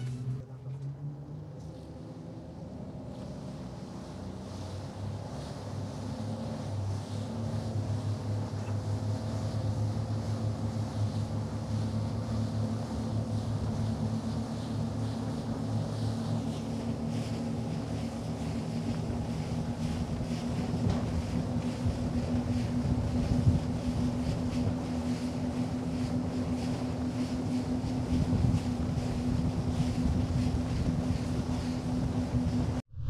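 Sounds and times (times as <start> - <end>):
outboard motors humming: 0.0 - 33.0
wind: 0.0 - 33.0.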